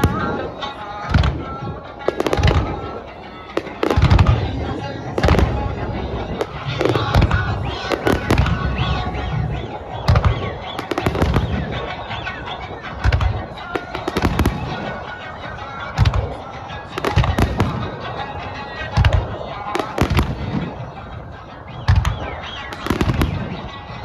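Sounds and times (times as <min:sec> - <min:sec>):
fireworks booming and cracking: 0:00.0 - 0:24.0
music from sound system: 0:00.0 - 0:24.0.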